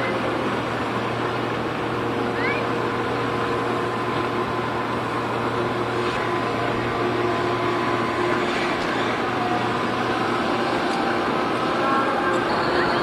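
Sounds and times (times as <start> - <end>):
small boat engine droning: 0.0 - 13.0.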